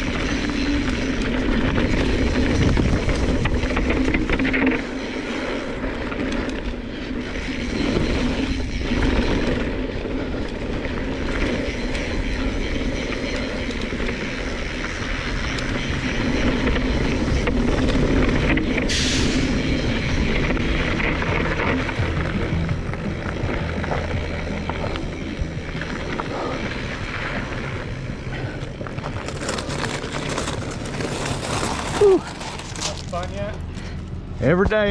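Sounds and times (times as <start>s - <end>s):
tyre noise on dirt: 0.0s - 33.7s
wind buffeting microphone: 0.0s - 34.4s
bike rattling over bumps: 0.0s - 34.9s.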